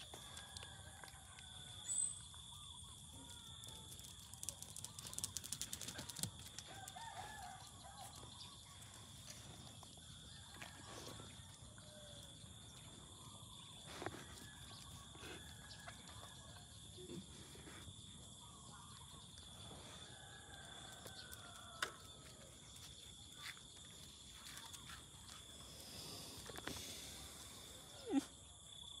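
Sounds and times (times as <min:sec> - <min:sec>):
faint animal calls and clicks: 0:00.0 - 0:29.0.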